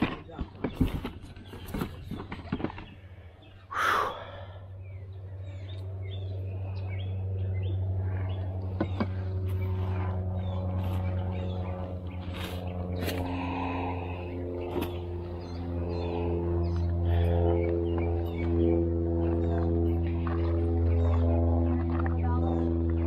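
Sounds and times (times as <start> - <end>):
birds chirping: 0.0 - 23.0
low engine hum: 0.2 - 23.0.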